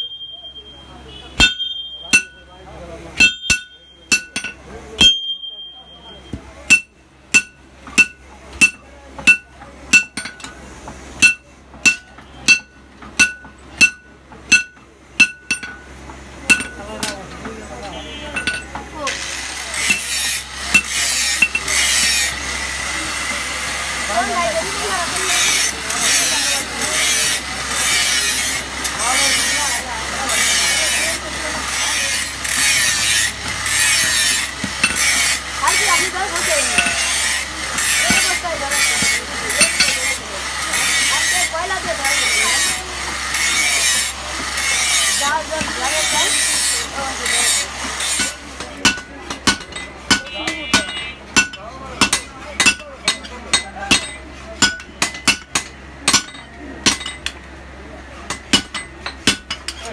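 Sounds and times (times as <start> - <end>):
hammer striking metal on anvil: 1.4 - 10.6, 11.2 - 17.6, 18.3 - 22.8, 25.2 - 57.4, 58.3 - 59.9.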